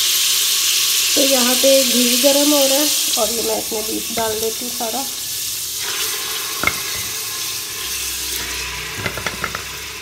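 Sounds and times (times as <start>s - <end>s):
ghee sizzling in a pot: 0.0s - 10.0s.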